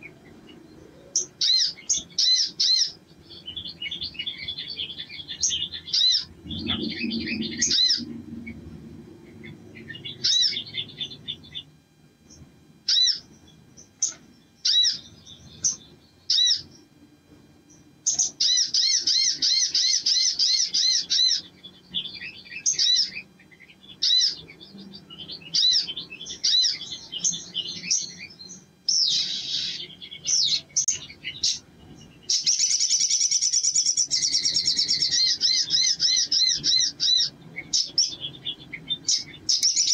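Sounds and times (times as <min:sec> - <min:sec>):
sunbird singing: 0:00.0 - 0:39.9.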